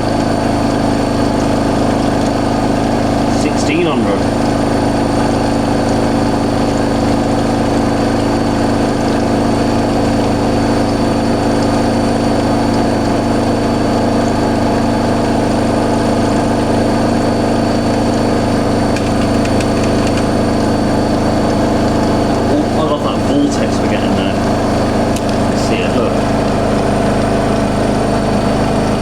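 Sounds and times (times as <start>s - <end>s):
washing machine spinning: 0.0s - 29.0s.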